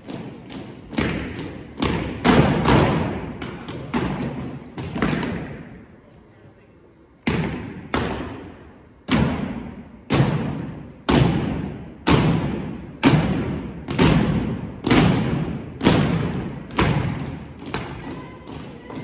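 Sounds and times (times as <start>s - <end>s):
boots stomping on gym floor: 0.0s - 5.7s, 9.1s - 19.0s.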